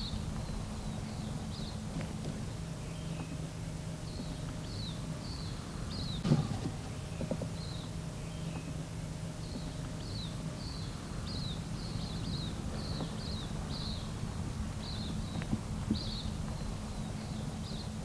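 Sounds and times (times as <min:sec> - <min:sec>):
bird chirping: 0:00.0 - 0:08.8, 0:09.4 - 0:18.0
low hum: 0:00.0 - 0:18.0.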